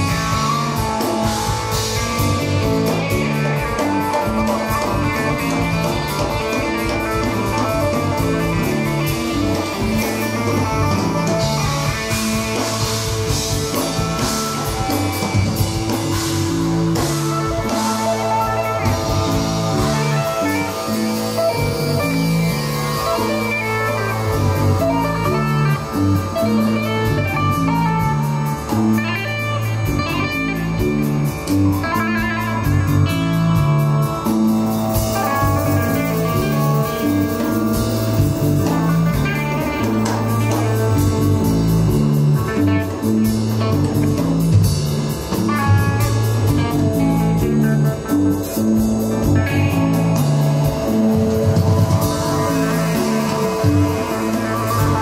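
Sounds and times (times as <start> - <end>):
bass line: 0.0 - 55.0
drum beat with cymbals: 0.0 - 55.0
electric guitar: 0.0 - 55.0.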